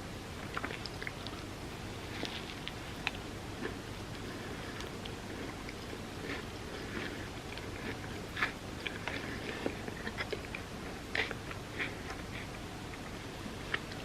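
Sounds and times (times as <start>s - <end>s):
close chewing: 0.4s - 14.0s.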